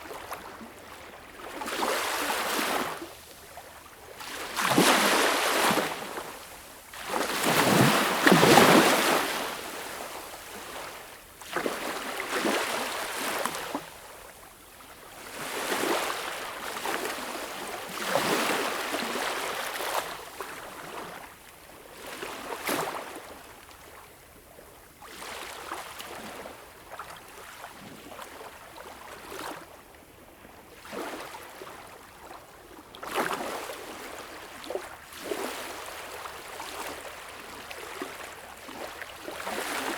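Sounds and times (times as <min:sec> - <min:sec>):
small waves breaking on shore: 0:00.0 - 0:24.0, 0:25.0 - 0:29.8, 0:30.6 - 0:39.9.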